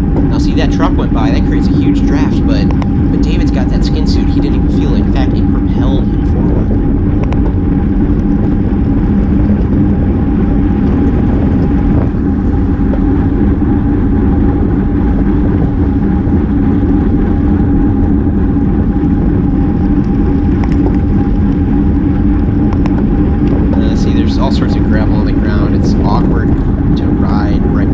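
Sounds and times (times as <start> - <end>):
wind rumble on microphone: 0.0 - 27.9.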